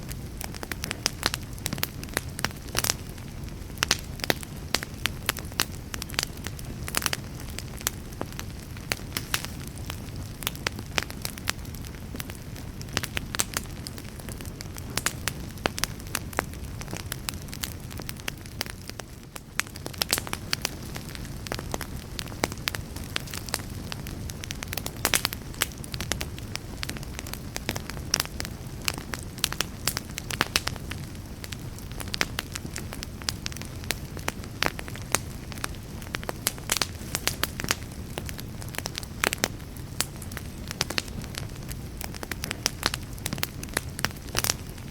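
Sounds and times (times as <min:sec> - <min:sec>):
fire crackles and pops: 0:00.0 - 0:44.9
low rumble of flames: 0:00.0 - 0:44.9.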